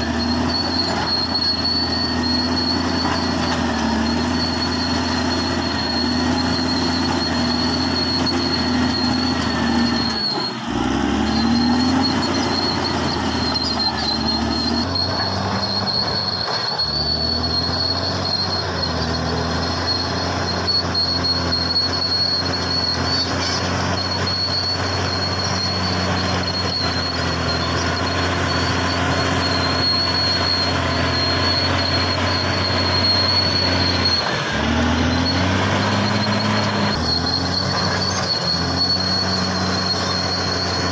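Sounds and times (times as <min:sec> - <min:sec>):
bulldozer diesel engine rumbling: 0:00.0 - 0:40.9
steel tracks clanking and squealing: 0:00.0 - 0:40.9.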